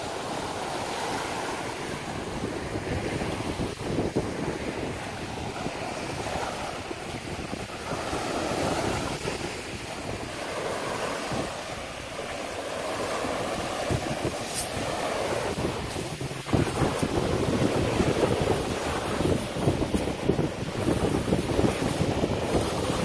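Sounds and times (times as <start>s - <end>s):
small waves washing on sand: 0.0s - 23.0s
wind rumbling on microphone: 0.0s - 23.0s.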